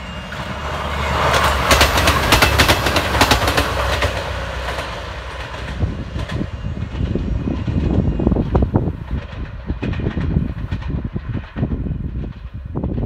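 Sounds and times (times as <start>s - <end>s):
train engine rumble: 0.0s - 13.0s.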